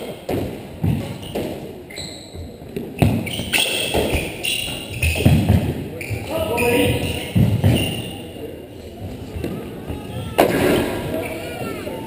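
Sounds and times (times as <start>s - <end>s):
squash ball hitting racquets and walls: 0.0s - 8.3s, 9.4s - 11.4s
shoes squeaking on hardwood floor: 0.8s - 12.0s.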